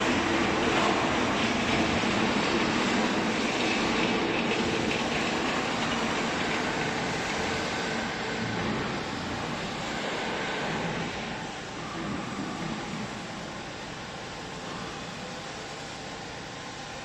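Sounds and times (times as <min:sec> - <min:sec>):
hydraulic baler machine hum: 0:00.0 - 0:17.0.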